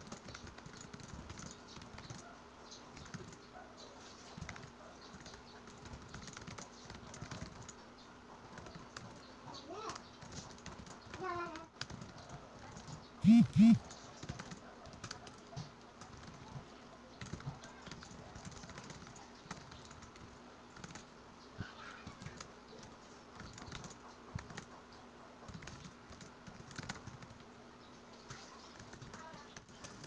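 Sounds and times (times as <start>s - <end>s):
laptop keyboard typing: 0.0s - 30.0s.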